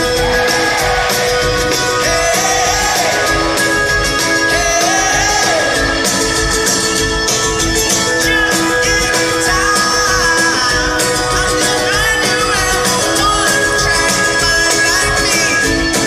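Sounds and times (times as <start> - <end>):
man singing: 0.0 - 6.4, 7.7 - 16.0
guitar: 0.0 - 16.0
steady drum beat: 0.0 - 16.0.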